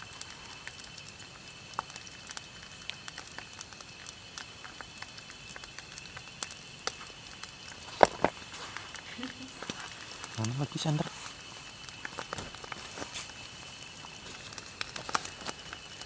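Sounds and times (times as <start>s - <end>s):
hot oil crackling and spitting: 0.0s - 16.0s.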